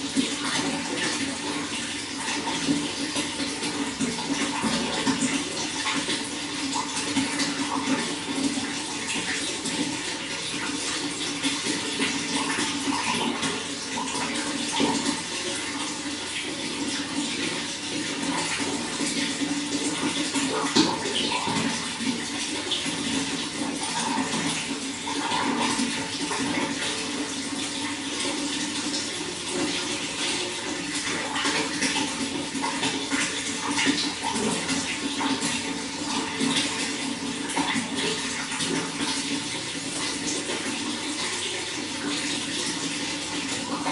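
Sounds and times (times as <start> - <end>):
running water flowing: 0.0 - 43.9.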